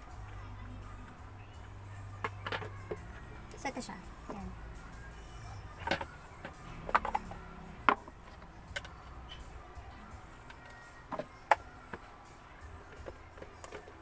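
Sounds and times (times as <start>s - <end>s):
plastic parts clicking and knocking: 0.0s - 14.0s.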